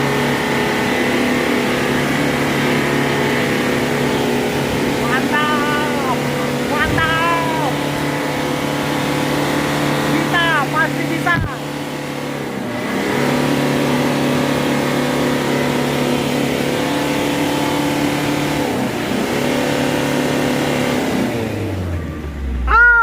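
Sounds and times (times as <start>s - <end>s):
diesel engine at high revs: 0.0s - 23.0s.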